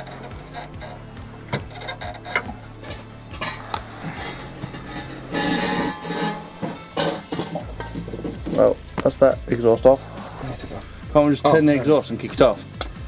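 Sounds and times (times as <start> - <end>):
metal scrape: 0.0 - 8.9, 9.5 - 12.0
metal exhaust parts clinking: 0.0 - 12.9.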